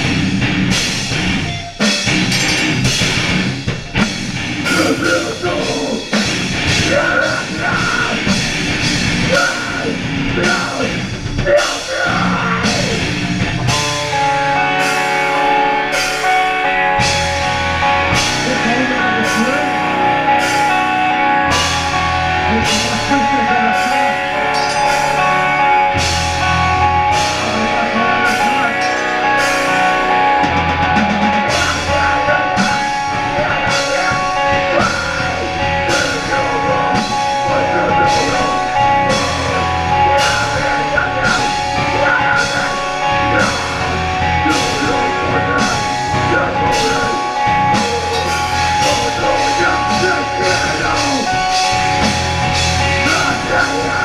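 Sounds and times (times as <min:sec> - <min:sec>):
bass guitar: 0:00.0 - 0:54.0
distorted electric guitars: 0:00.0 - 0:54.0
drum kit beat: 0:00.0 - 0:54.0
heavy low guitar chugs: 0:00.0 - 0:54.0.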